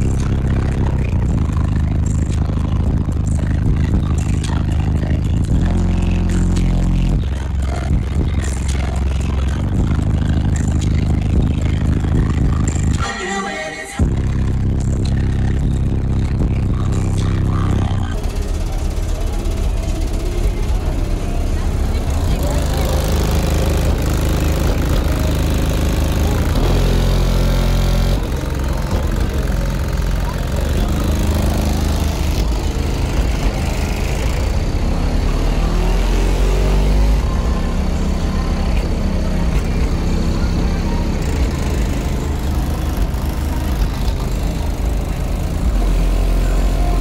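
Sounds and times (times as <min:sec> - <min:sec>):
bass-heavy music from car subwoofers: 0:00.0 - 0:47.0.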